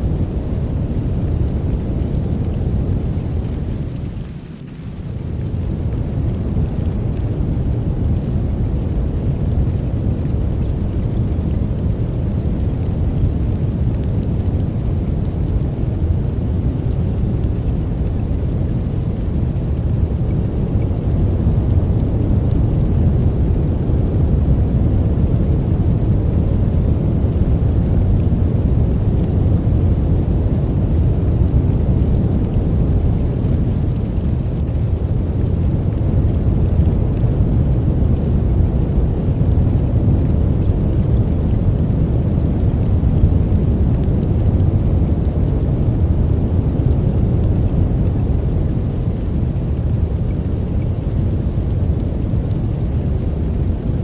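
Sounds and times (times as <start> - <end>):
steady deep white noise: 0.0 - 54.0.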